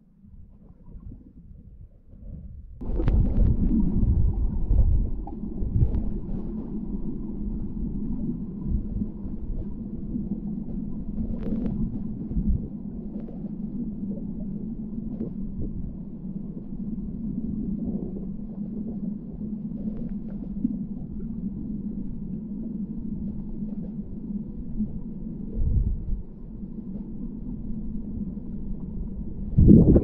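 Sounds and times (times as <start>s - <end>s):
underwater flowing water rush: 2.8s - 30.0s.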